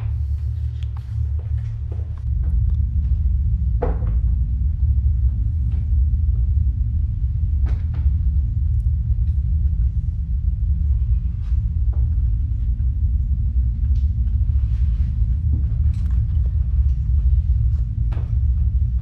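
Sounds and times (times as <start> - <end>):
loud low rumble: 0.0 - 19.0.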